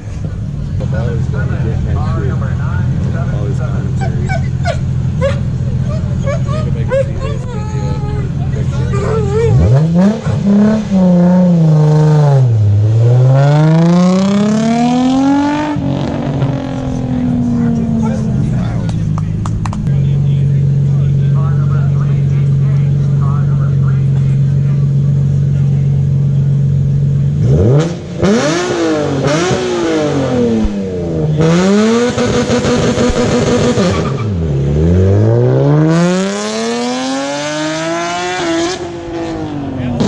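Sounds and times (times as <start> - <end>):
car engine idling: 0.0 - 40.0
car engine revving: 0.0 - 40.0.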